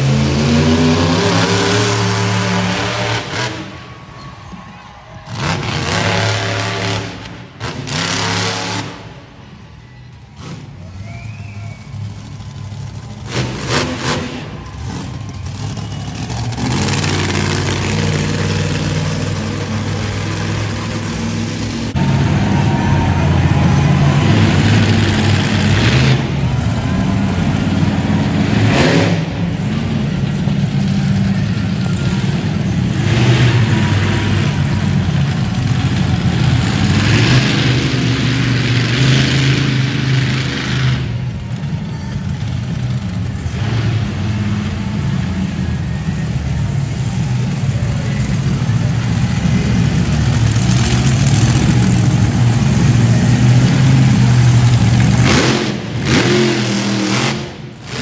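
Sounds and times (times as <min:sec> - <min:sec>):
truck engine revving hard: 0:00.0 - 0:03.9, 0:05.2 - 0:09.4, 0:10.4 - 0:58.0.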